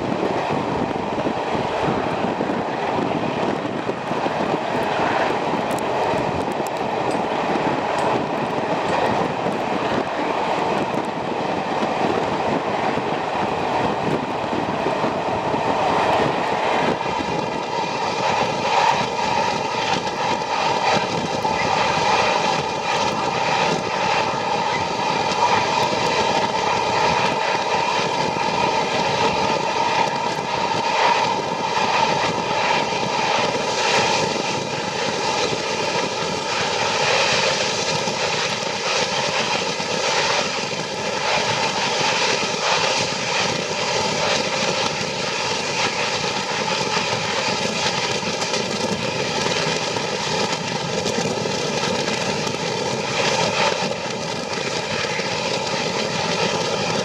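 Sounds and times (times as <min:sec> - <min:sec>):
train running: 0:00.0 - 0:57.0.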